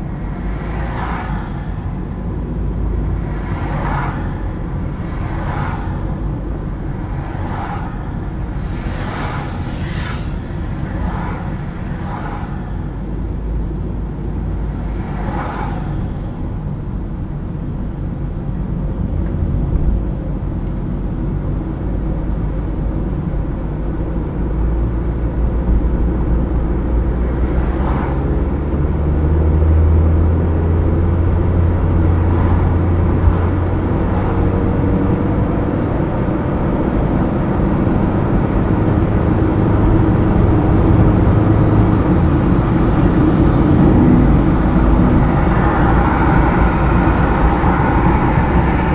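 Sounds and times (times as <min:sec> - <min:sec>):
car engine hum: 0:00.0 - 0:48.9
tyre road noise: 0:00.0 - 0:48.9.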